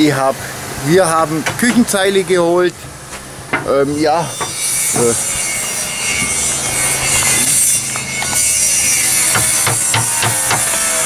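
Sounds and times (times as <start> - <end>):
power saw cutting wood: 1.0 - 11.0.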